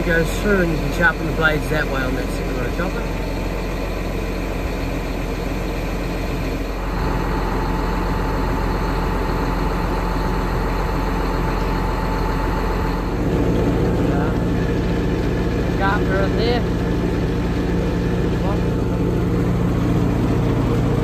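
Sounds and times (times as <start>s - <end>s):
steady whine: 0.0s - 21.0s
tractor engine running: 0.0s - 21.0s.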